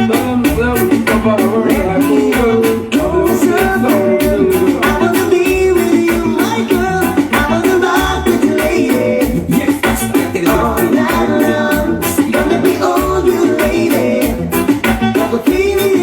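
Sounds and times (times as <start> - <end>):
reggae music with singing: 0.0 - 16.0.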